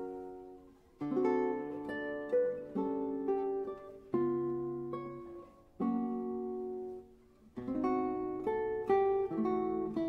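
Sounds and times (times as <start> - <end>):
plucked acoustic guitar: 0.0 - 10.0.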